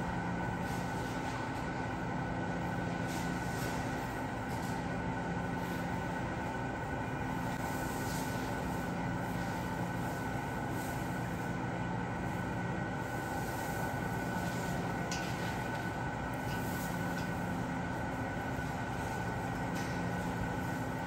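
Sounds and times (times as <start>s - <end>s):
machinery hum and rumble: 0.0s - 21.0s.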